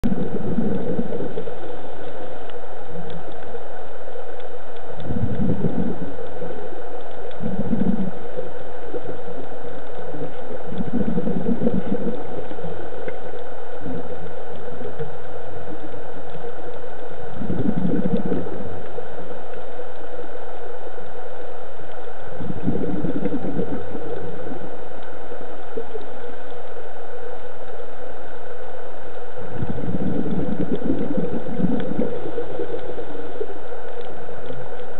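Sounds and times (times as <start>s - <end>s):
exhaled bubbles underwater: 0.0s - 3.7s, 4.9s - 20.1s, 22.2s - 27.9s, 28.8s - 34.9s
steady hum: 0.0s - 34.9s.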